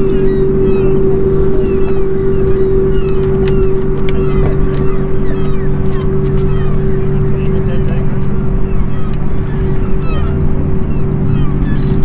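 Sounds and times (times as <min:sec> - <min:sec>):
electric trolling motor humming: 0:00.0 - 0:12.0
wind rumble on microphone: 0:00.0 - 0:12.0.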